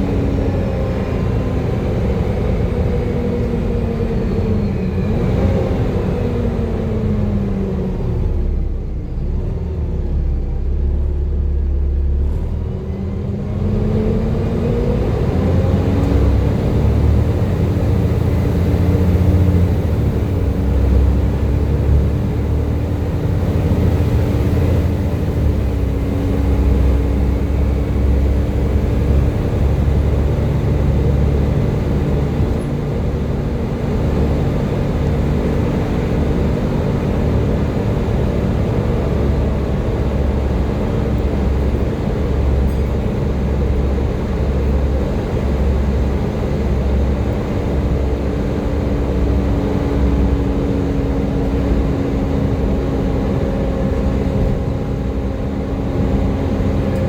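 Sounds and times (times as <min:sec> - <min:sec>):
bus diesel engine whining: 0:00.0 - 0:57.0.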